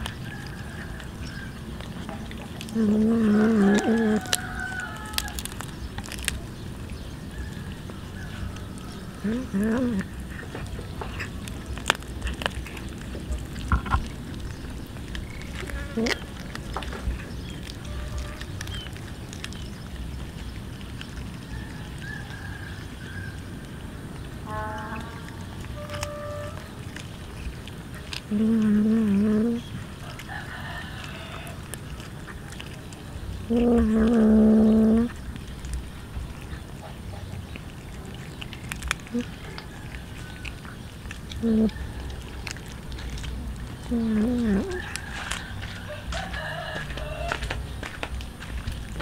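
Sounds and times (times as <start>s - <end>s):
cat chewing raw fish: 0.0s - 49.0s.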